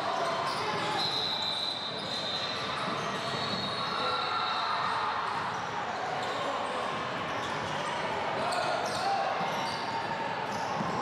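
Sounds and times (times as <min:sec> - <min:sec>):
game and crowd noise: 0:00.0 - 0:11.0.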